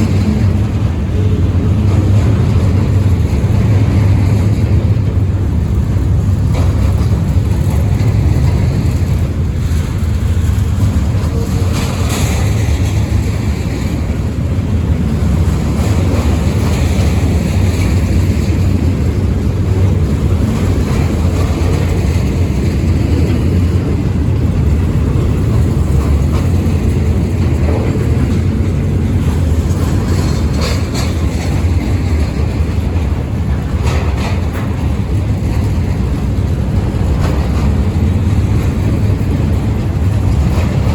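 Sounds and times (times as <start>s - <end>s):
freight train rumbling past: 0.0s - 40.9s
wheels clicking and squealing on rails: 0.0s - 40.9s.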